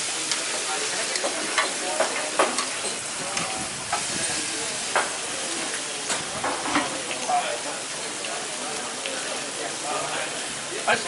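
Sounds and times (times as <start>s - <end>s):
steaks sizzling on a griddle: 0.0s - 11.0s.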